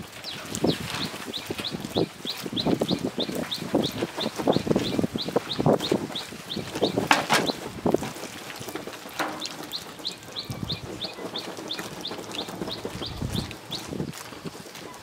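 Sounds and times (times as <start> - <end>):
bird chirping: 0.2 - 7.6, 9.3 - 14.0.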